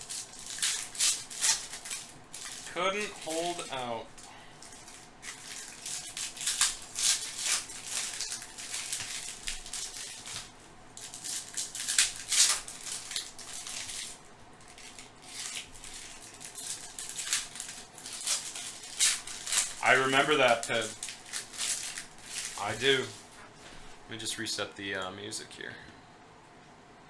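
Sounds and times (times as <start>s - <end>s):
card pack wrappers crinkling: 0.0s - 23.4s.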